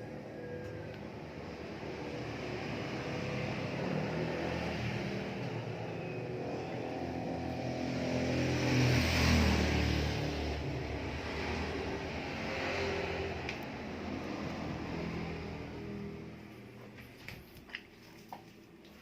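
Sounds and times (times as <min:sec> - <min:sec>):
vehicle engine approaching: 0:00.0 - 0:18.9.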